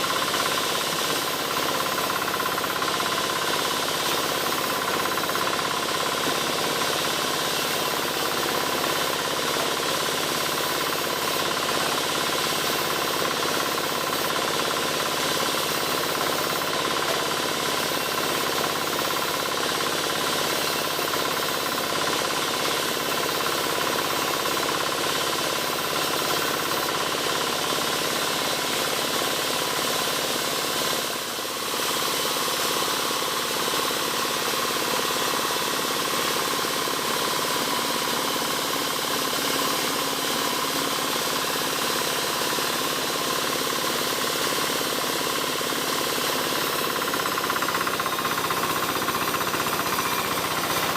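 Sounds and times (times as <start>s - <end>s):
motorised saw cutting wood: 0.0s - 50.9s.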